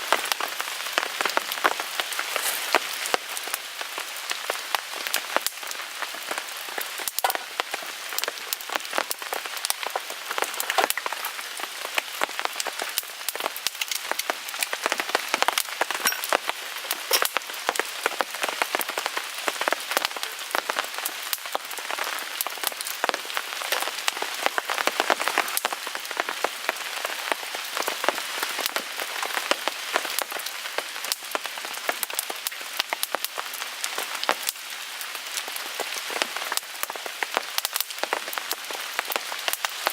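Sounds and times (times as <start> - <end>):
rain pattering on a tarp: 0.0 - 39.9
wood fire crackling: 0.0 - 39.9.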